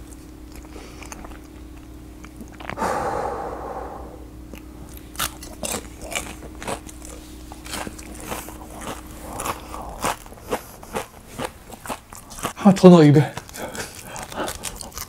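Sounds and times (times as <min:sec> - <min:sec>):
crunchy chewing: 0:00.0 - 0:02.8, 0:04.5 - 0:15.0.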